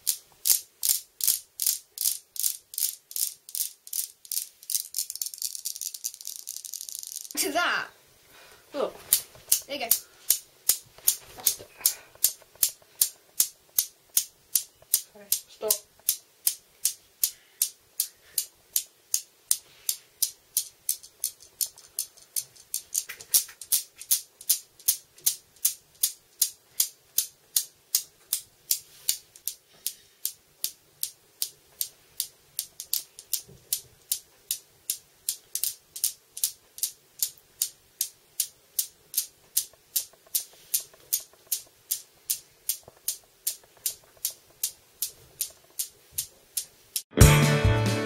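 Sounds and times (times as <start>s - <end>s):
steel balls clacking: 0.0s - 7.5s, 9.1s - 47.0s.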